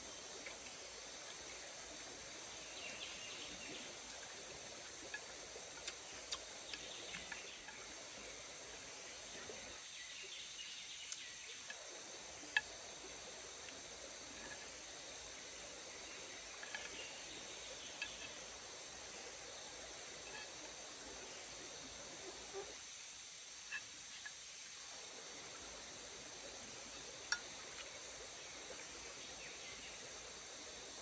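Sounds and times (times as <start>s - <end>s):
forest insects droning: 0.0s - 31.0s.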